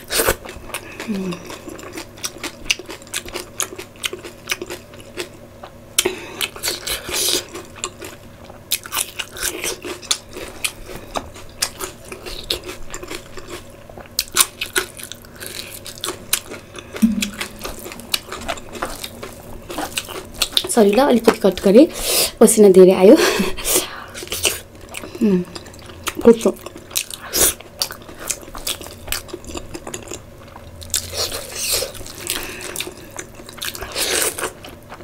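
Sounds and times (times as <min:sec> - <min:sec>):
person chewing food: 0:00.0 - 0:20.7, 0:24.1 - 0:35.0.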